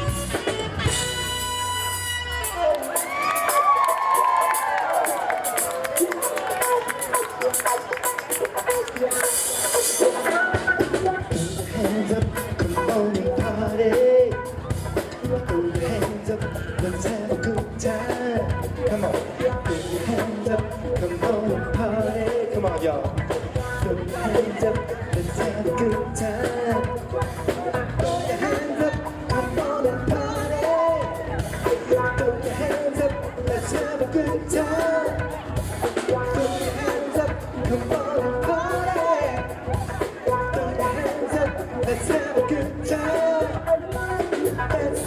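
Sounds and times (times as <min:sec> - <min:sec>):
live band playing dance music: 0:00.0 - 0:45.0
person singing: 0:02.4 - 0:45.0
drum beat: 0:02.5 - 0:45.0.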